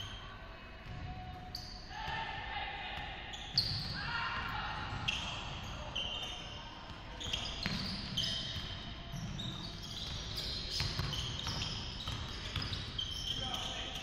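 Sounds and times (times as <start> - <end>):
sneakers squeaking on gym floor: 0.0 - 2.2, 3.0 - 14.0.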